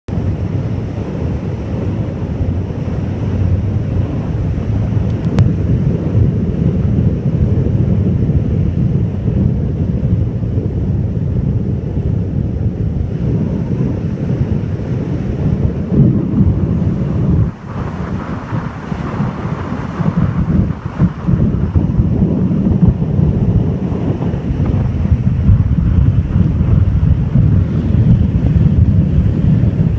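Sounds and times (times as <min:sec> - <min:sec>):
ocean surf on beach: 0:00.1 - 0:29.9
wind buffeting microphone: 0:00.1 - 0:29.9.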